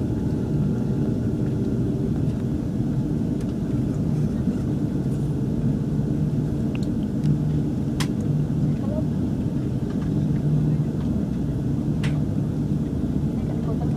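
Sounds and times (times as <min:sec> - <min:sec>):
aircraft cabin engine rumble: 0:00.0 - 0:13.9.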